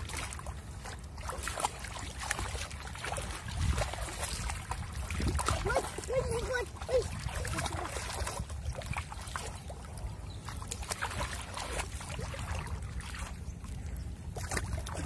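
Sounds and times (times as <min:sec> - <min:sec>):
shallow water splashing: 0:00.0 - 0:15.0.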